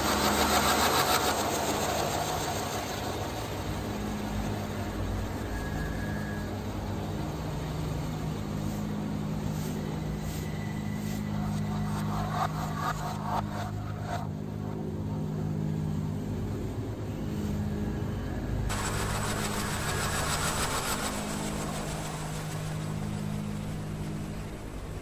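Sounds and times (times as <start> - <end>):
air rushing from fan blades: 0.0 - 17.8, 18.5 - 25.0
ceiling fan motor hum: 0.0 - 25.0.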